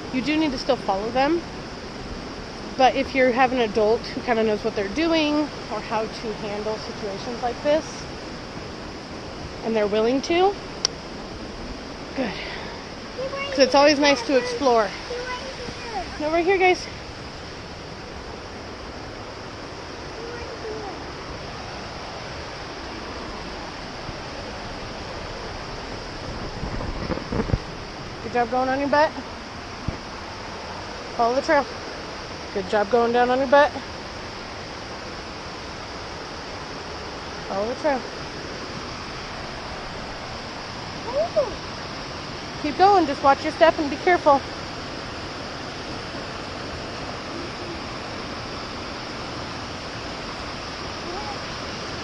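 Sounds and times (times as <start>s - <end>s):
waterfall and creek rushing: 0.0s - 52.0s.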